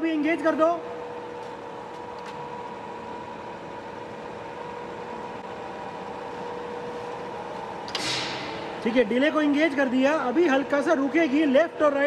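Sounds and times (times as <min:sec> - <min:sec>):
grinding machine hum: 0:00.0 - 0:12.0.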